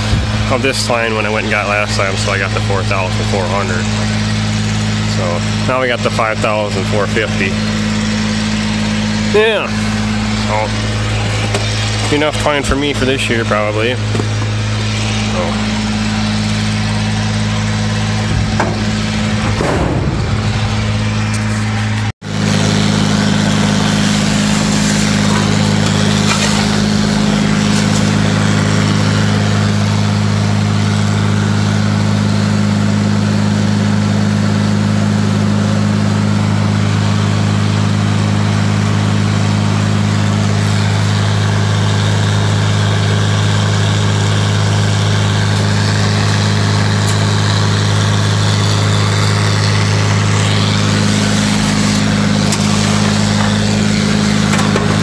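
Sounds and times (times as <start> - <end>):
tractor engine running under load: 0.0 - 55.0
grinder-mixer grinding corn: 1.9 - 19.5, 20.1 - 55.0.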